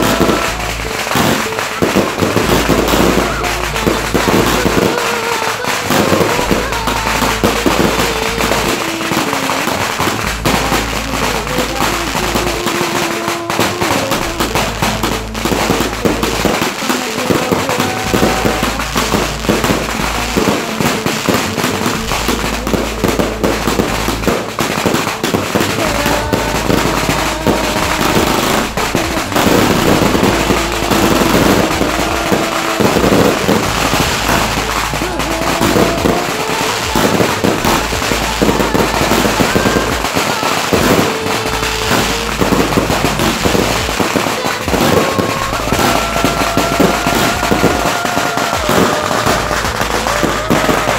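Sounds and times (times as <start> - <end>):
fireworks cracking and popping: 0.0 - 50.9.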